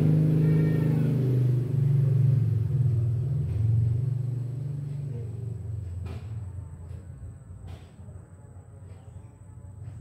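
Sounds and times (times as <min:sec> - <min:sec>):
engine running: 0:00.0 - 0:10.0.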